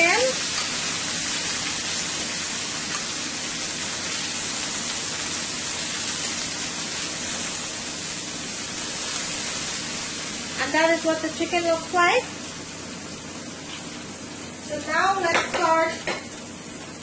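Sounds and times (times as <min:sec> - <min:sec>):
chicken sizzling in a skillet: 0:00.0 - 0:17.0.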